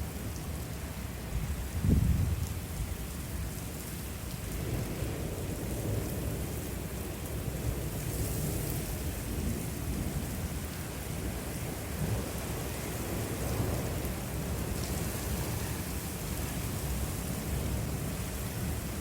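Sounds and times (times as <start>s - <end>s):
rain falling on surfaces: 0.0s - 19.0s.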